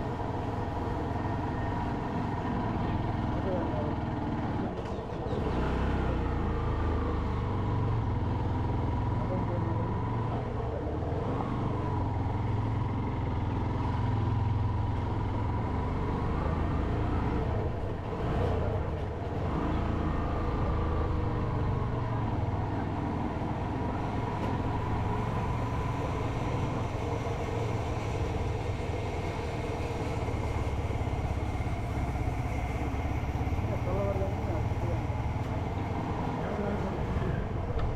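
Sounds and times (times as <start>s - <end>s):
road and wind noise: 0.0s - 37.9s.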